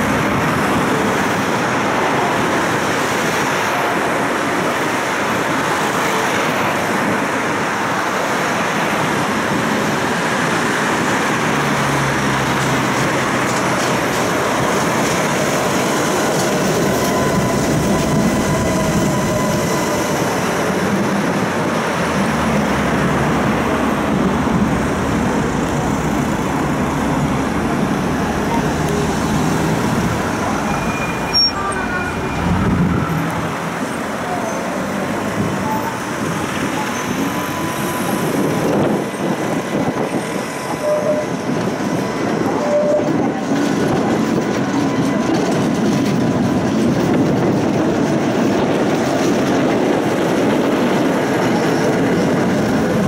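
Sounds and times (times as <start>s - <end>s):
city road traffic: 0.0s - 53.0s
tram passing: 0.0s - 53.0s.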